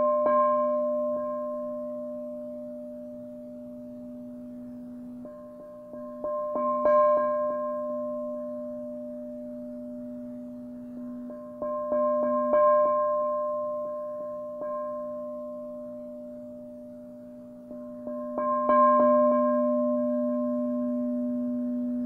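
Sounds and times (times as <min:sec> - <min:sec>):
singing bowls ringing: 0:00.0 - 0:22.0.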